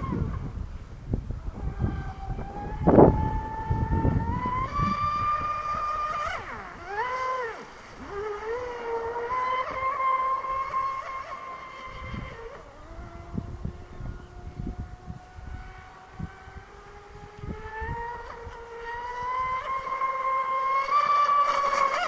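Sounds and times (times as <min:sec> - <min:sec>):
electric motor whining: 0:00.0 - 0:22.0
wind buffeting microphone: 0:00.0 - 0:22.0.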